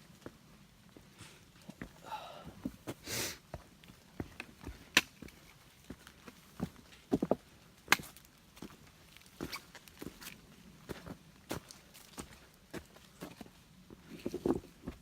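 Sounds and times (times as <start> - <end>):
footsteps on rocky trail: 1.0 - 15.0.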